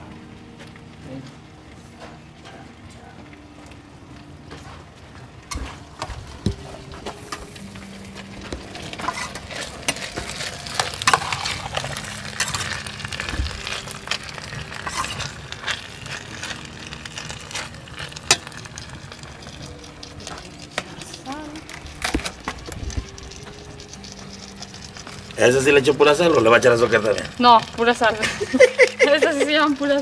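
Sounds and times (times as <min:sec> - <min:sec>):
potatoes and onion sizzling in pot: 0:00.0 - 0:30.0.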